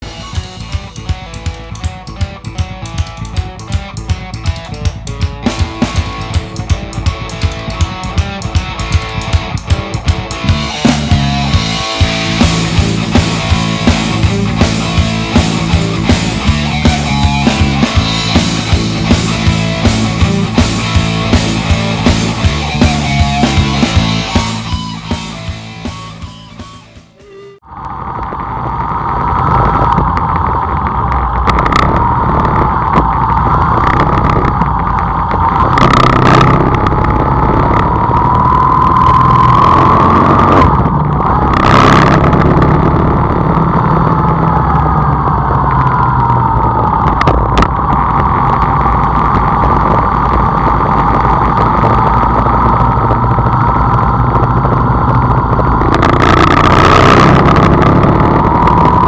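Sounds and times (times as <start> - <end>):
vehicle engine running: 0.0 - 27.6, 32.1 - 59.0.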